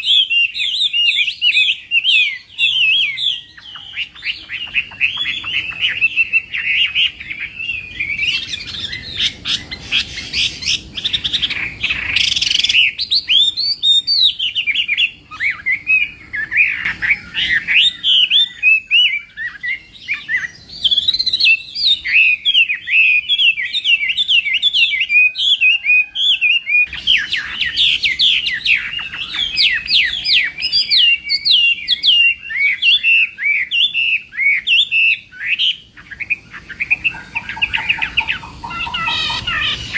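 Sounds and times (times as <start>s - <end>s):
songbird warbling and whistling: 0.0s - 39.9s.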